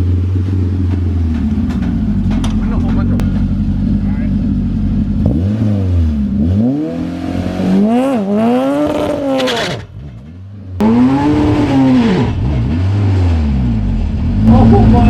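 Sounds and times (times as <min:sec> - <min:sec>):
truck engine revving through gears: 0:00.0 - 0:15.0.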